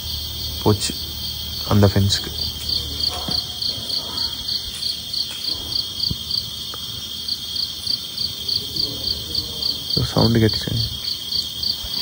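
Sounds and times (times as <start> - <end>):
crickets trilling: 0.0 - 12.0
insect chirping in pulses: 0.0 - 12.0.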